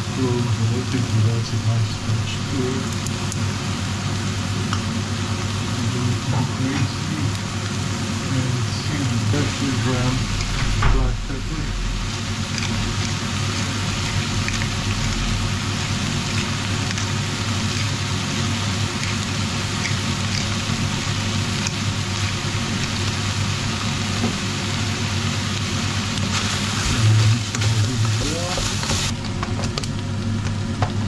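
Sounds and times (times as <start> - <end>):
meat sizzling in a pot: 0.0 - 31.0
steady low hum: 0.0 - 31.0.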